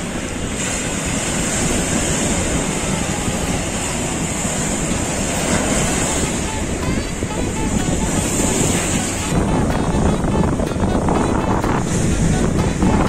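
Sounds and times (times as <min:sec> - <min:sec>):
ocean surf breaking on beach: 0:00.0 - 0:13.0
wind buffeting microphone: 0:00.0 - 0:13.0.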